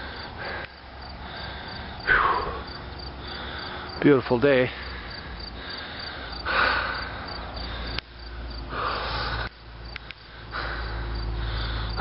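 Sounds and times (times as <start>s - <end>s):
crickets chirping: 0.0s - 12.0s
man breathing heavily: 0.0s - 12.0s.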